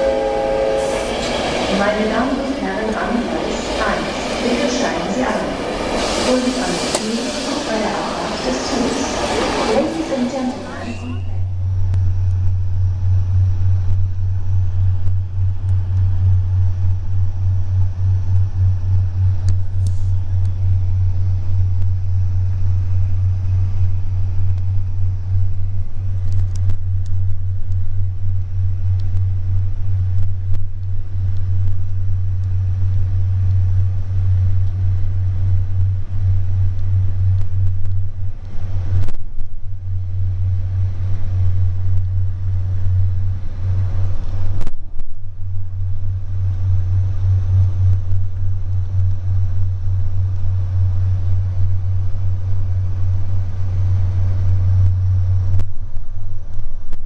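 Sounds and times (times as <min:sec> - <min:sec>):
train carriage rumbling: 0:00.0 - 0:57.0.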